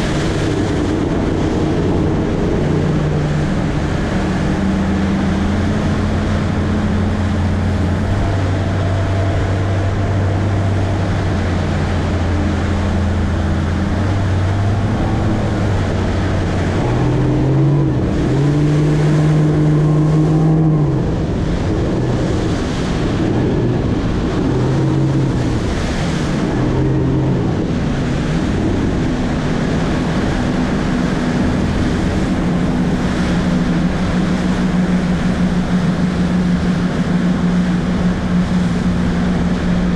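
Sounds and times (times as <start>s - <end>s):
wind rushing: 0.0s - 35.6s
outboard motor running: 0.0s - 39.9s
water rushing past: 0.0s - 39.9s.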